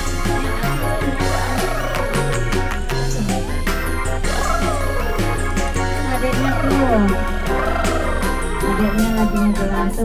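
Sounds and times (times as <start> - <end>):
upbeat synth music with bass: 0.0 - 10.0.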